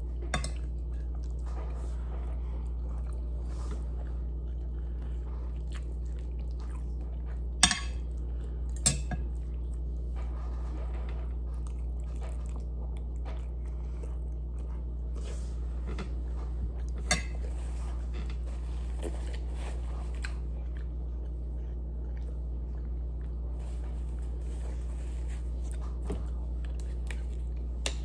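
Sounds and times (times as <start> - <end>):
person chewing food: 0.0 - 28.0
steady low hum: 0.0 - 28.0.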